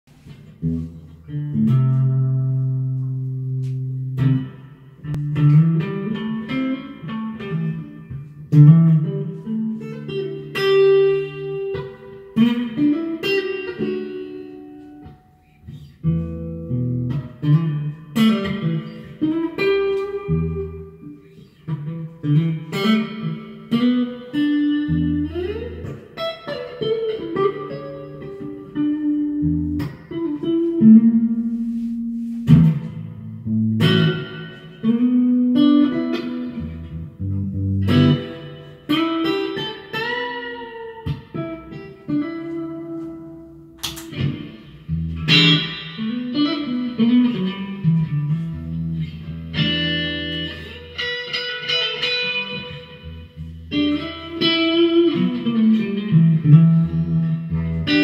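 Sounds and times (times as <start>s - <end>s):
fuzzy electric guitar: 0.1s - 58.0s.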